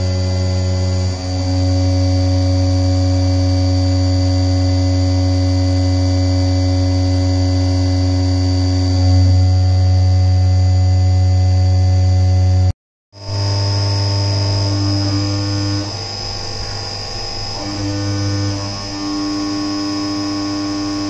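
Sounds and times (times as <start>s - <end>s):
milling machine cutting metal: 0.0s - 10.6s, 13.2s - 21.0s.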